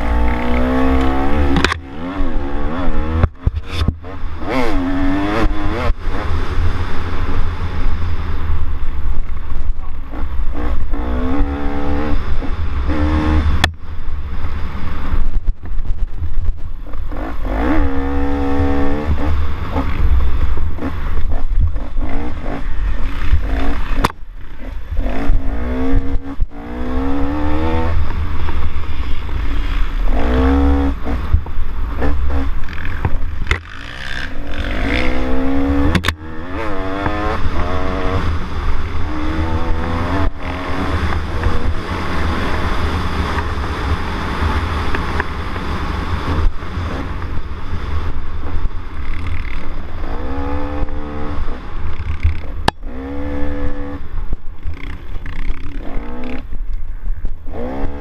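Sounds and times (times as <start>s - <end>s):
atv engine revving: 0.0s - 56.6s, 57.5s - 58.0s
wind rumble on camera: 0.0s - 58.0s.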